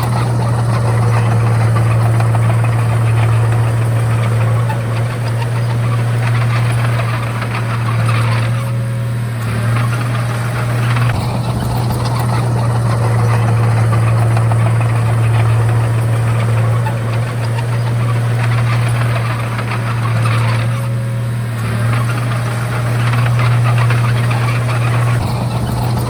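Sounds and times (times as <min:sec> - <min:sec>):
bulldozer diesel engine drone: 0:00.0 - 0:26.0
rattling noise: 0:00.0 - 0:26.0.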